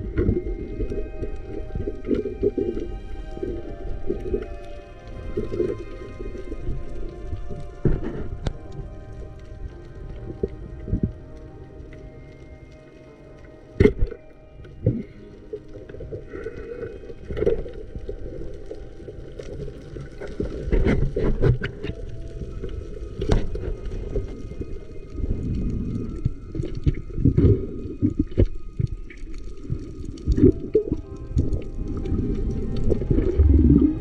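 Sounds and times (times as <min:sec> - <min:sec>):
underwater knocks and clicks: 0:00.0 - 0:09.5, 0:13.8 - 0:34.0
underwater rumble of water: 0:00.0 - 0:34.0.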